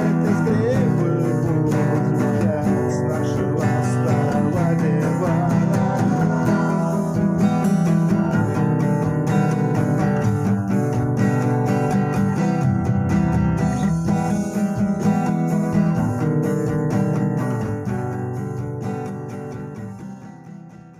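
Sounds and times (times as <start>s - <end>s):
strummed guitar: 0.0s - 20.9s.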